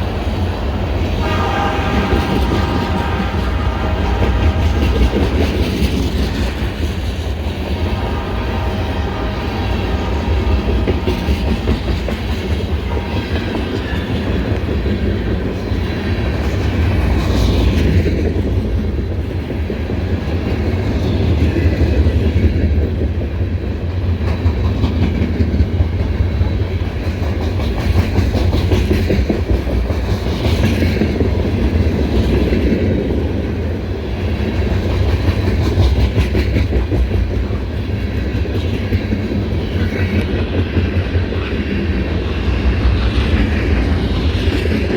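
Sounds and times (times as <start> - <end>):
clickety-clack over rail joints: 0.0 - 44.9
train wheels rumbling on rail: 0.0 - 44.9.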